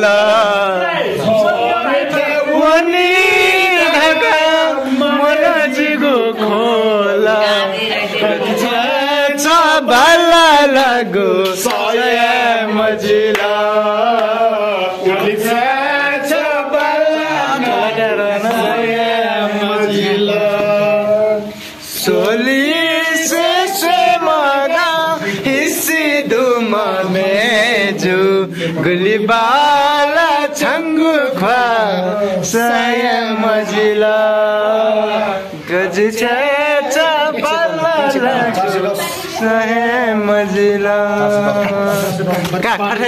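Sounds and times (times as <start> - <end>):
person singing chant-like melody: 0.0 - 42.6.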